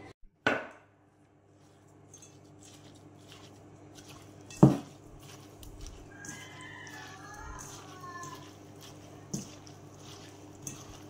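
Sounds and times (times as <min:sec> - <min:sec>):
wet squishing by hand: 0:01.5 - 0:11.0.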